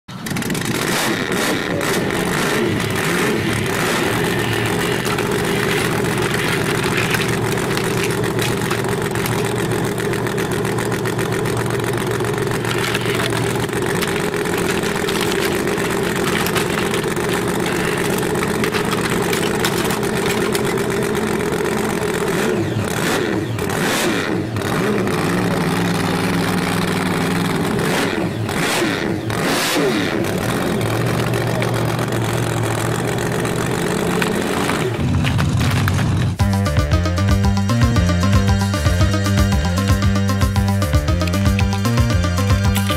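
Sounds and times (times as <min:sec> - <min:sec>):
vehicle engine revving: 0:00.2 - 0:42.9.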